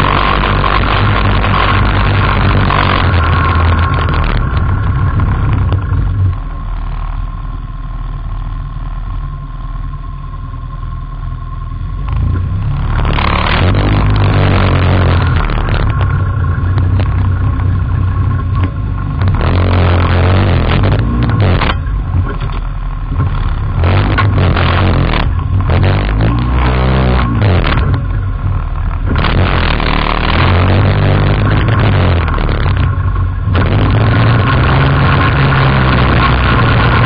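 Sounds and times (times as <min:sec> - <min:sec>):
quad bike engine running: 0:00.0 - 0:37.0.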